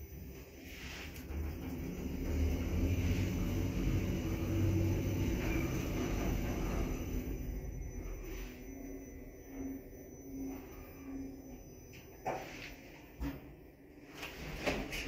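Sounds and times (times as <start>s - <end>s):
elevator low rumble: 0.0s - 15.0s.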